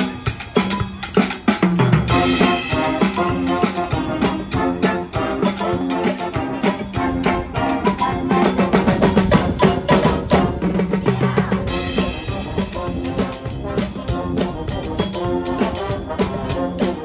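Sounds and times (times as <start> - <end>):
brass band playing: 0.0 - 17.0
drum kit beat: 0.0 - 17.0.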